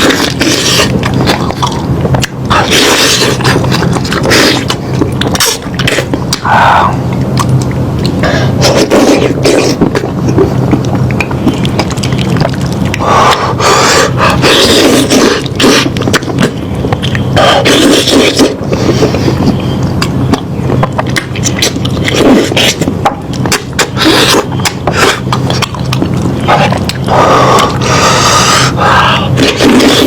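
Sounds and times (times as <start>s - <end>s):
chewing meat: 0.0s - 30.0s.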